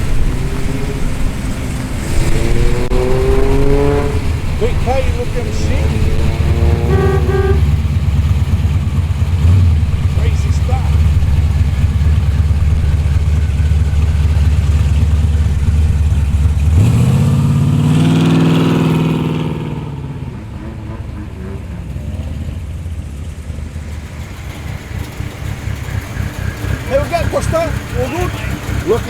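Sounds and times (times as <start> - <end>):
car engine rumbling and revving: 0.0 - 29.0.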